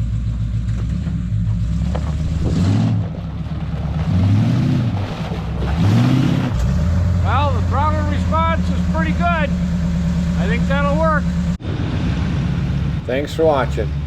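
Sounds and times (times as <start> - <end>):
truck engine idling and revving: 0.0 - 14.0.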